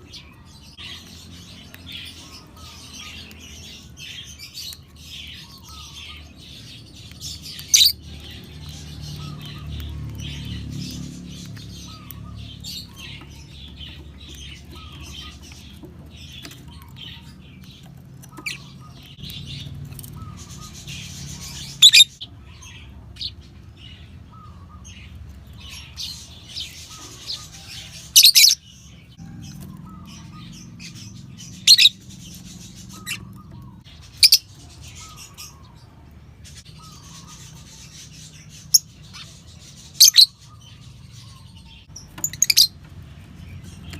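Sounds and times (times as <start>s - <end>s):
lovebirds chattering and chirping: 0.0s - 43.9s.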